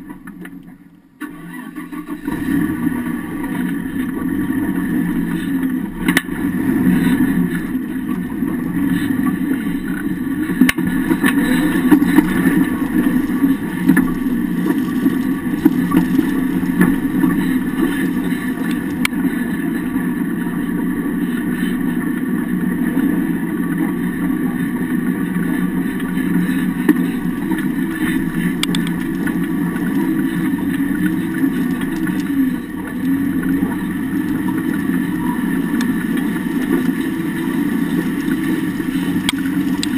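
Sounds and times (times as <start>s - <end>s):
vehicle engine and drivetrain drone: 0.0s - 39.9s.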